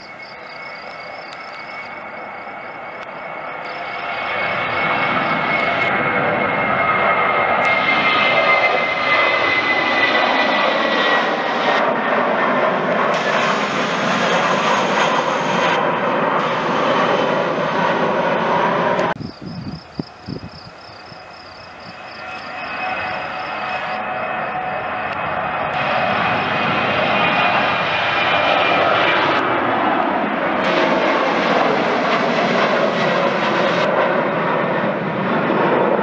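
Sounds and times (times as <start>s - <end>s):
distant airliner taking off: 0.0s - 36.0s
jet engines at climb power: 0.0s - 36.0s.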